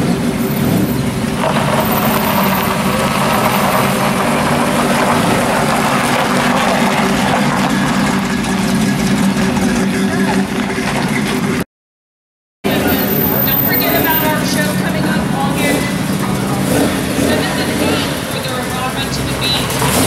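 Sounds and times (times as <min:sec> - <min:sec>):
pickup truck engine rumbling: 0:00.0 - 0:11.6, 0:12.6 - 0:20.0.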